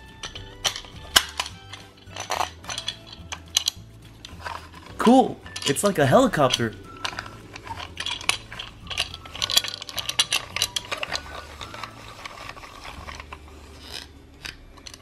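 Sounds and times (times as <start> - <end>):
plastic cutter clicking and rattling: 0.2 - 15.0.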